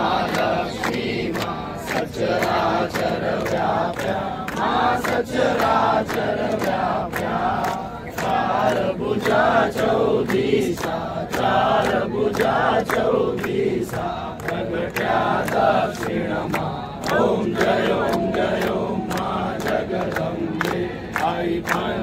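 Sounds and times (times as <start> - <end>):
crowd singing devotional song: 0.0 - 22.0
hand clapping in time: 0.0 - 22.0.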